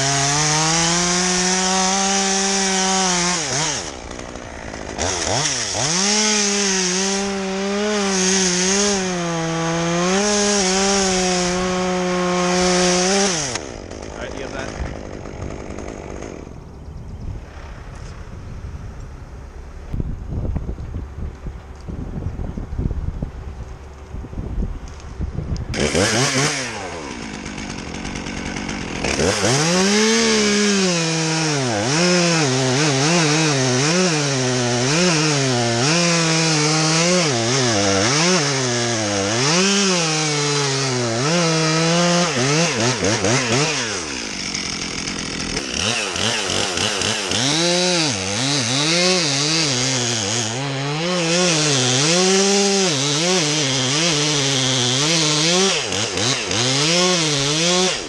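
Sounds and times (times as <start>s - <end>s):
chainsaw cutting wood: 0.0s - 18.4s, 24.8s - 58.0s.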